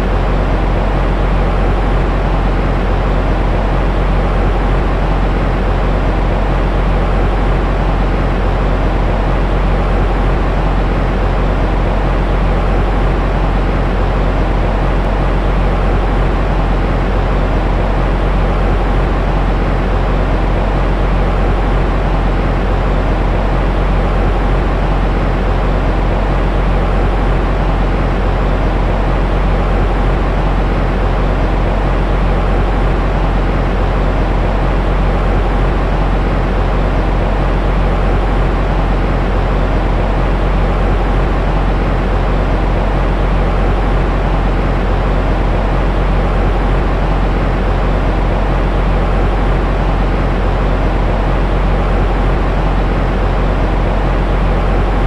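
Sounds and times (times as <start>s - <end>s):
low rumbling white noise: 0.0s - 55.0s.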